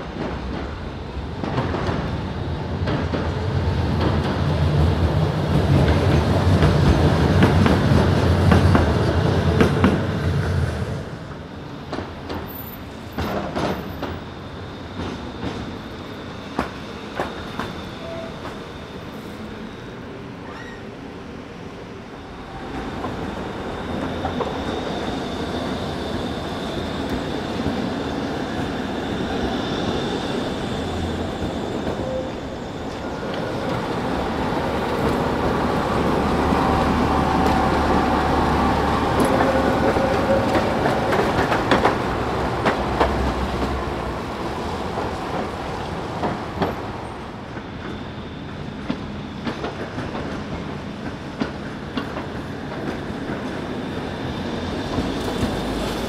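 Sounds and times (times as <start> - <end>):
tram rolling rumble: 0.0 - 56.0.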